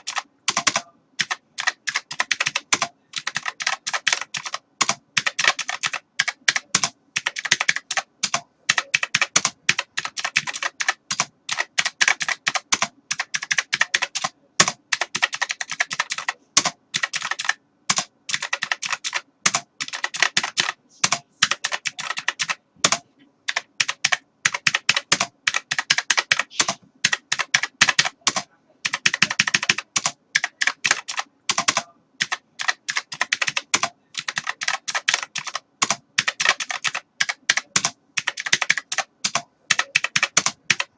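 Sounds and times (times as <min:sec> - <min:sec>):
typing on computer keyboard: 0:00.0 - 0:40.9.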